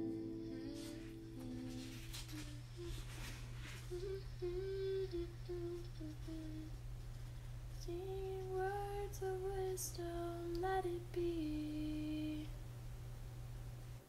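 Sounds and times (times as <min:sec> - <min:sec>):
woman humming a melody: 0:00.0 - 0:06.8, 0:07.8 - 0:12.6
low hum: 0:00.0 - 0:14.0.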